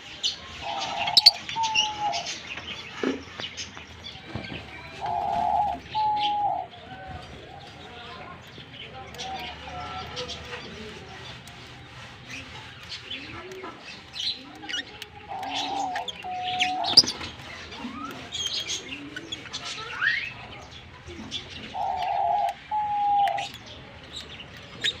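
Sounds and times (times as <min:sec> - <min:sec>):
long held bird calls: 0:00.2 - 0:02.7, 0:05.0 - 0:06.9, 0:07.6 - 0:25.0
lovebirds chirping: 0:00.2 - 0:25.0.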